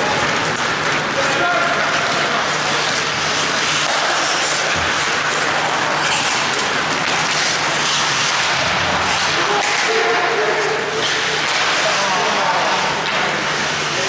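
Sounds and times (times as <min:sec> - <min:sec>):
constant low hum: 0:00.0 - 0:14.0
faint skate scraping: 0:00.0 - 0:14.0
ice rink rushing roar: 0:00.0 - 0:14.0.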